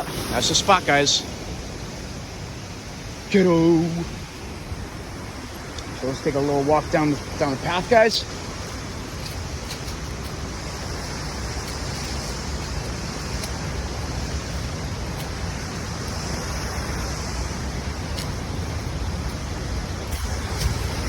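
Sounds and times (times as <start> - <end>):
river rushing: 0.0 - 21.0
wind rumble on microphone: 0.0 - 21.0.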